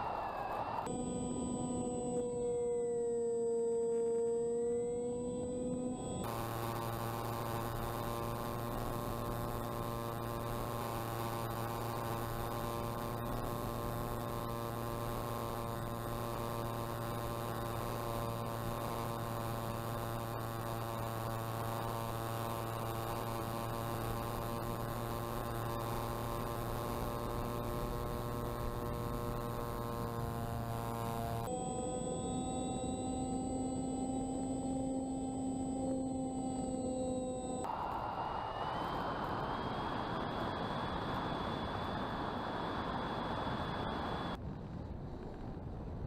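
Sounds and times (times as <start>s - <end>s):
electric motor and propeller whine: 0.0s - 44.4s.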